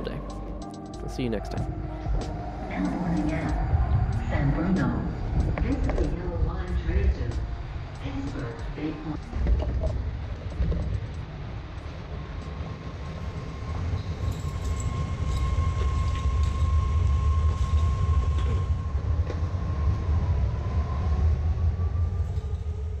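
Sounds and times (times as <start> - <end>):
train heavy low rumble: 0.0 - 23.0
train steady whine: 0.0 - 23.0.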